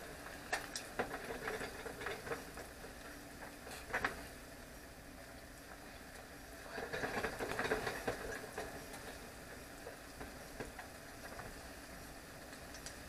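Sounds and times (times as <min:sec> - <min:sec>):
dough frying in hot oil: 0:00.0 - 0:13.0.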